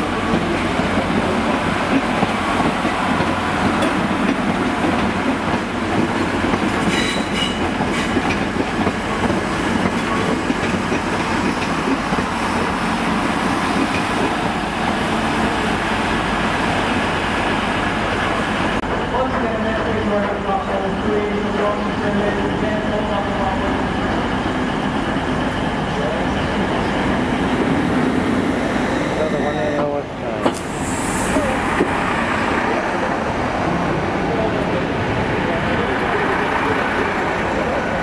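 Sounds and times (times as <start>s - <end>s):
train wheels on rails: 0.0s - 38.0s.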